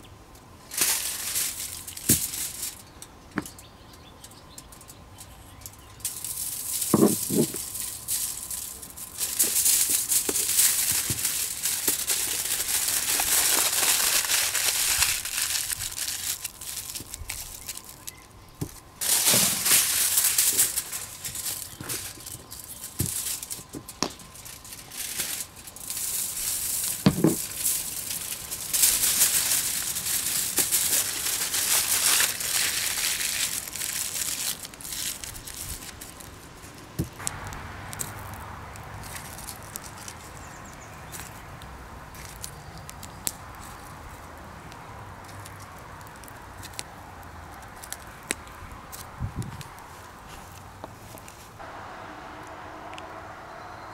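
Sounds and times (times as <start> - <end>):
aluminium foil crinkling: 0.6 - 3.6, 4.2 - 38.4, 39.0 - 41.4, 42.1 - 44.2, 45.2 - 50.5.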